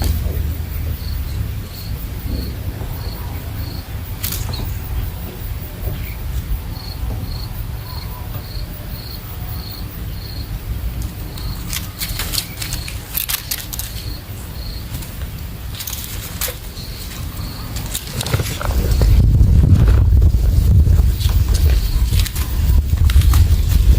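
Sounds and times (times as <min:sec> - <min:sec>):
rustling clicks: 0:00.0 - 0:07.6, 0:11.0 - 0:23.9
cricket chirping: 0:00.0 - 0:23.9
low rumble: 0:00.0 - 0:23.9.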